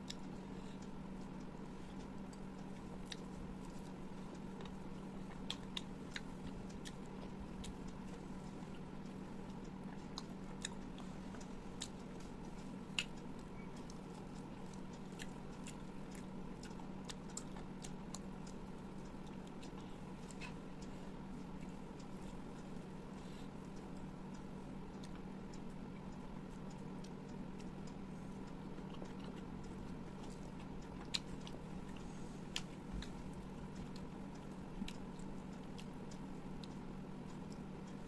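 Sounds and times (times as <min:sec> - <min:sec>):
person chewing food: 0:00.0 - 0:38.0
steady low hum: 0:00.0 - 0:38.0.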